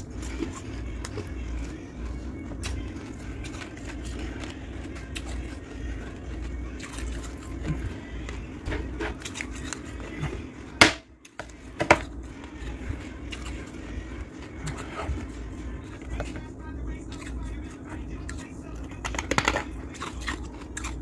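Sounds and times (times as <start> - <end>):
frost crunching and crackling: 0.0 - 21.0
steady low hum: 0.0 - 21.0.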